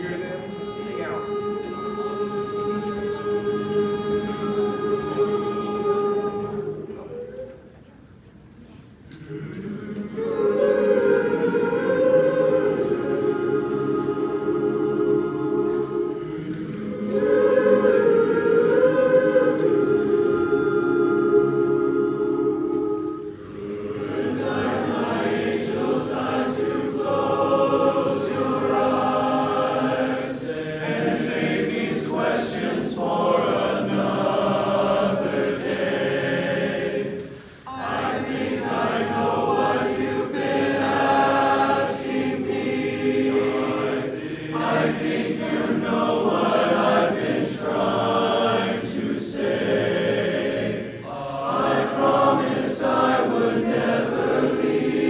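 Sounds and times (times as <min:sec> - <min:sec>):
men's chorus singing: 0:00.0 - 0:07.0, 0:09.1 - 0:55.0.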